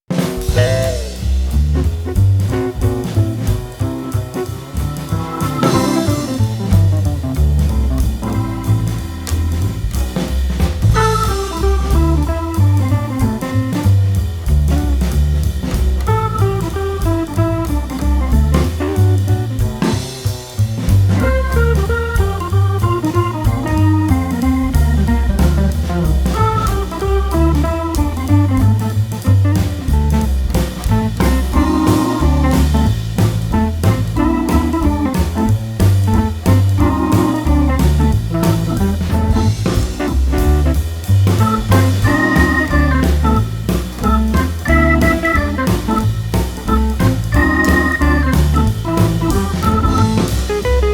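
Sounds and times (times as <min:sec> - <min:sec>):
jazzy band playing: 0:00.0 - 0:50.9.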